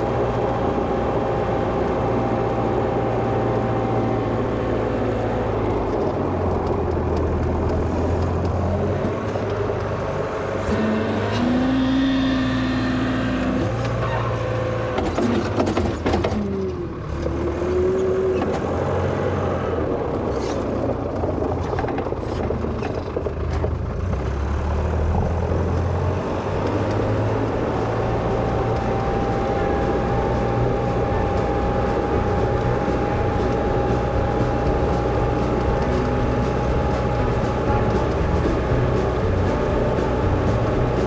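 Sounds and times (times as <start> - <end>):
diesel engine running with whine: 0.0 - 41.0.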